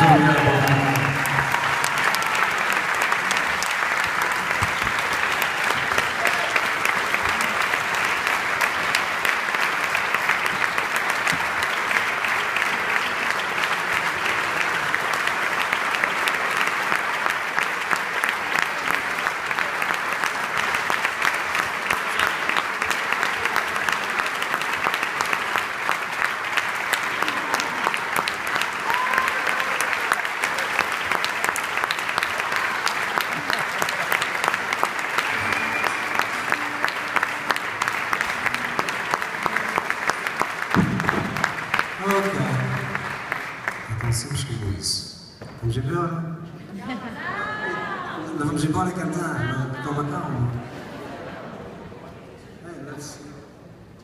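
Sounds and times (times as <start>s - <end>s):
audience applauding: 0.0s - 45.0s.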